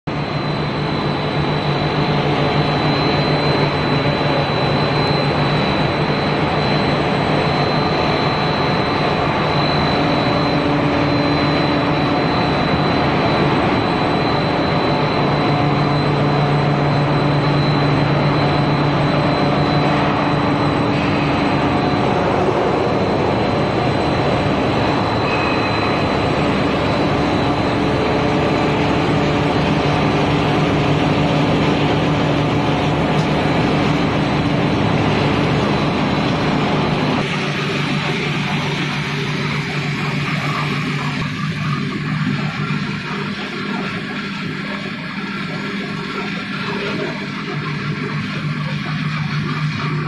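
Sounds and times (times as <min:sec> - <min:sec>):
high steady whine: 0:00.0 - 0:50.0
low machine hums: 0:00.1 - 0:50.0
machinery mechanical drone: 0:00.1 - 0:50.0.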